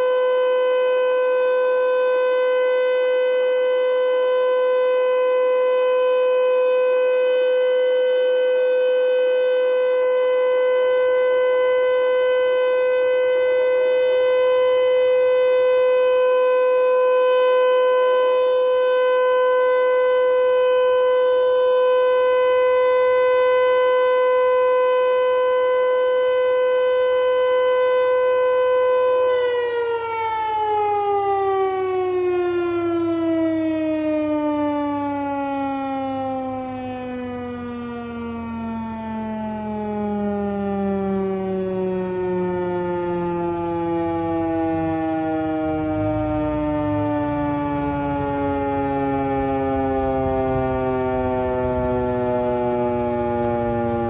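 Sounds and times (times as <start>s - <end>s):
outdoor warning siren steady tone: 0.0s - 54.0s.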